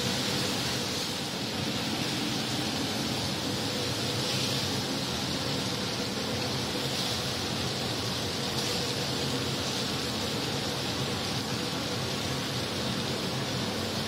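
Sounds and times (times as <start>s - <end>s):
meat sizzling on a griddle: 0.0s - 14.0s.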